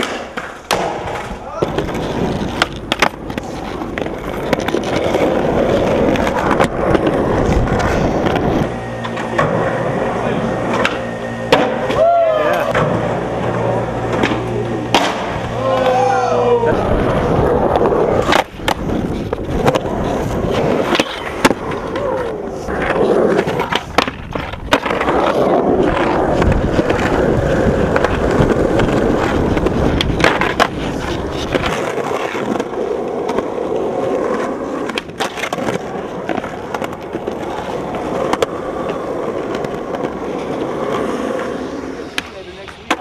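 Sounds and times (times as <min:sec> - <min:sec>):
skateboard popping and landing: 0:00.0 - 0:43.0
skateboard scraping concrete ledge: 0:00.0 - 0:43.0
skateboard wheels rolling on concrete: 0:00.0 - 0:43.0.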